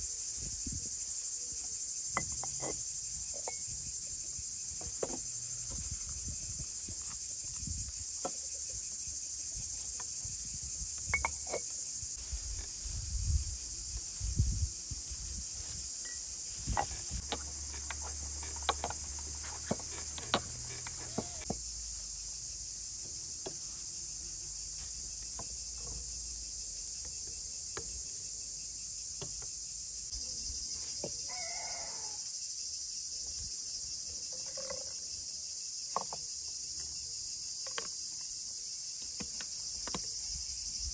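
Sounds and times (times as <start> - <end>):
crickets chirring: 0.0 - 40.9.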